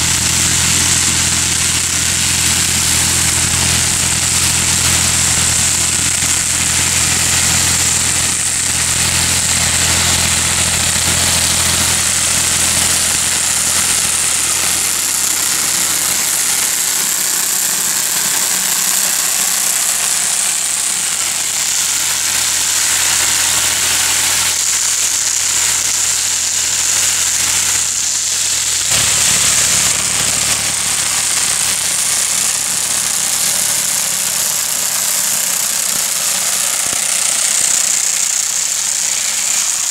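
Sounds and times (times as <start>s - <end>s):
high-pitched whine: 0.0s - 39.9s
rotor churning grass and soil: 0.0s - 39.9s
tractor engine running: 0.0s - 39.9s.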